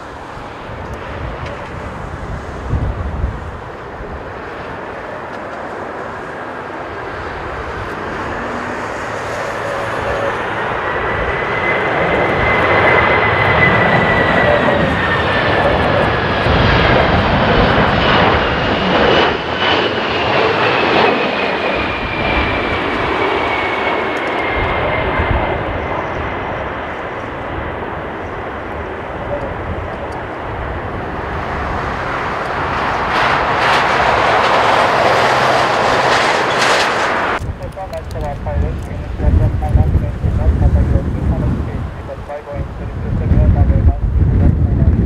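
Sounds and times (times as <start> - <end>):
jet engines rushing and whining: 0.0 - 45.0
wind buffeting microphone: 0.0 - 45.0.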